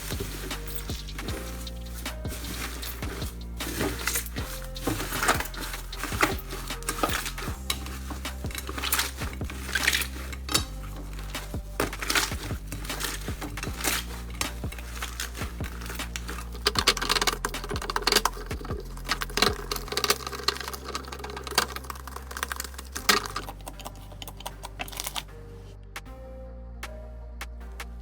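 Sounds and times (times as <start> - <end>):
soft background music: 0.0 - 28.0.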